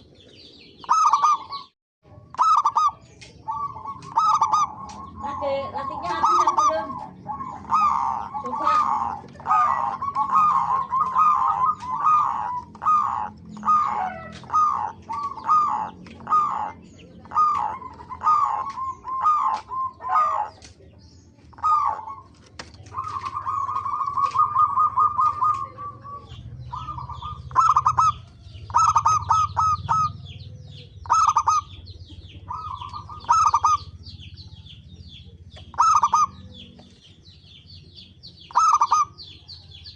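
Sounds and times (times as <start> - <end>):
dove cooing: 0.0 - 20.7, 21.5 - 39.9.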